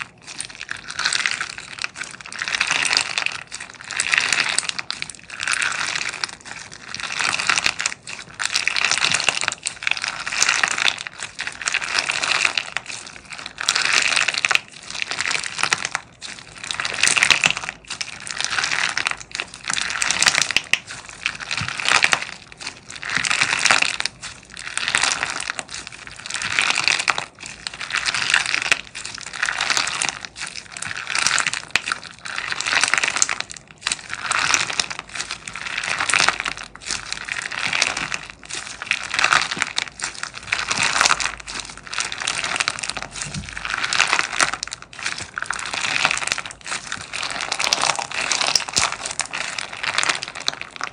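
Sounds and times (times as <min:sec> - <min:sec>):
slime squeezed by hand crackling: 0:00.0 - 0:50.9.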